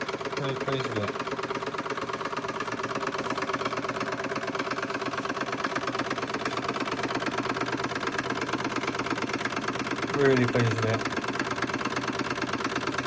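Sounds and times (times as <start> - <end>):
model steam engine chuffing: 0.0 - 13.0.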